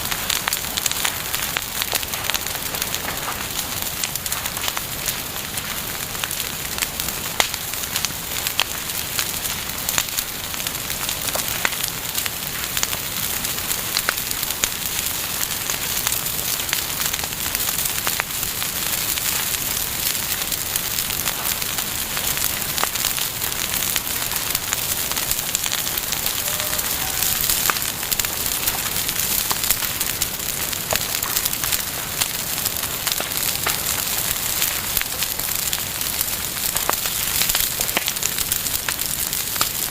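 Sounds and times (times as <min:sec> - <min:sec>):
bonfire crackling and hissing: 0:00.0 - 0:39.9.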